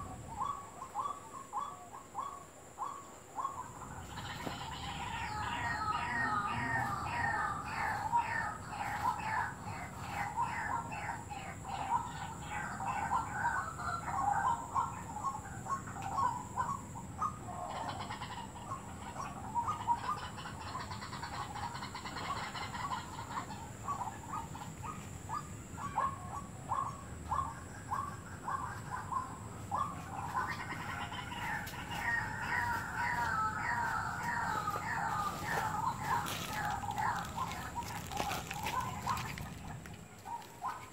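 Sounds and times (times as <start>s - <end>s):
waterhen croaking calls: 0.0s - 40.9s.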